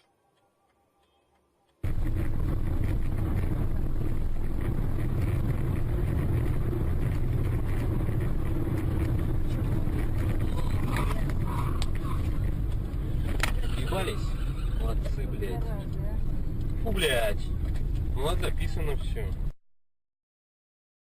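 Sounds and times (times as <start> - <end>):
road noise: 0.1 - 19.6
car engine rumble: 1.8 - 19.6.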